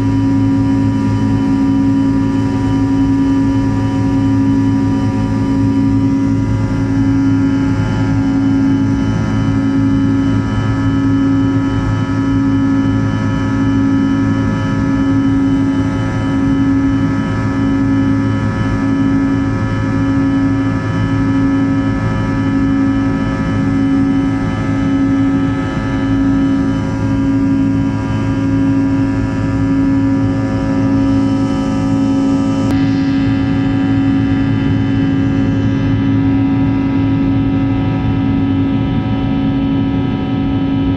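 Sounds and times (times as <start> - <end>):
jet engines droning in cabin: 0.0 - 40.9.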